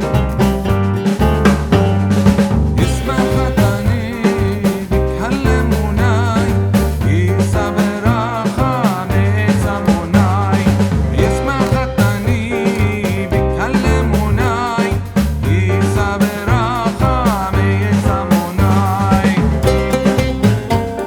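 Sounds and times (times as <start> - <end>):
background music with beat: 0.0 - 21.0
guitar: 0.0 - 21.0.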